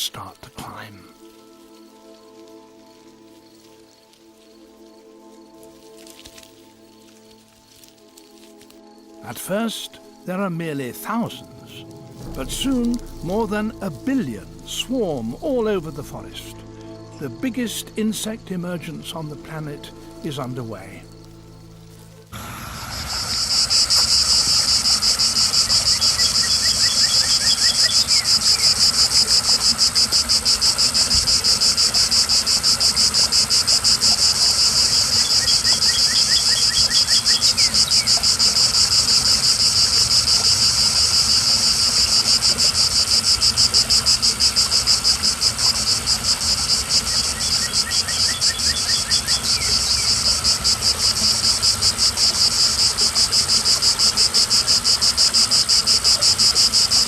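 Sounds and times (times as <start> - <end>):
cicadas droning buzz: 0.7 - 57.0.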